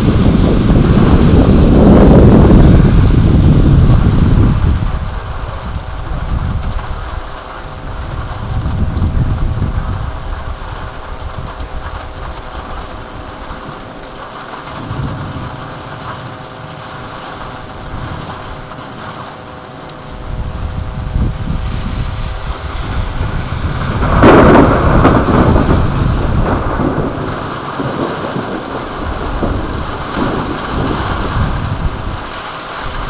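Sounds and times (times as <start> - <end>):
heavy rain falling: 0.0 - 33.0
thunder rumbles: 0.0 - 33.0.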